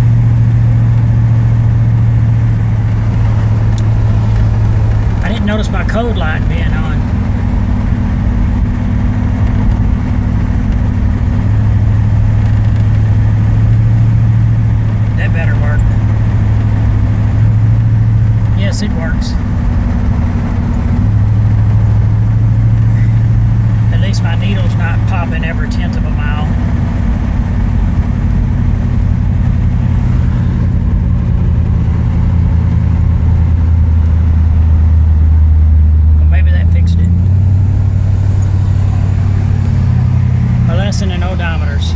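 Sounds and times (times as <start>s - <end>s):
car engine and road drone: 0.0s - 41.9s.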